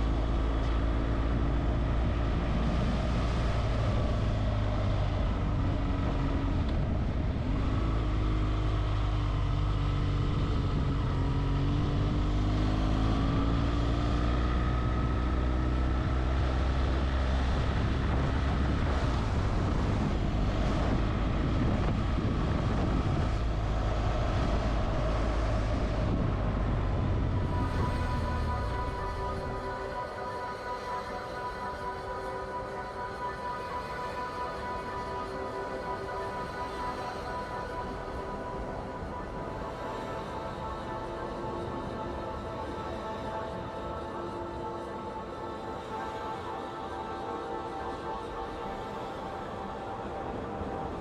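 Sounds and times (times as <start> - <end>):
wind and road noise: 0.0 - 51.0.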